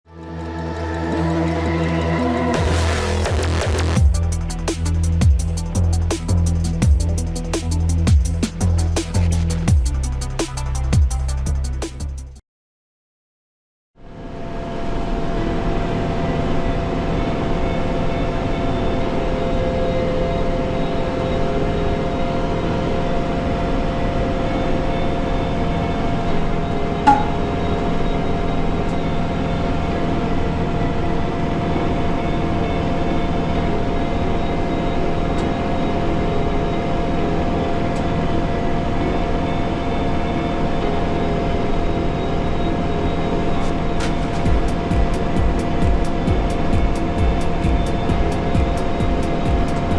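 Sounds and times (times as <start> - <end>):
constant whine: 0.1 - 11.7, 14.7 - 49.9.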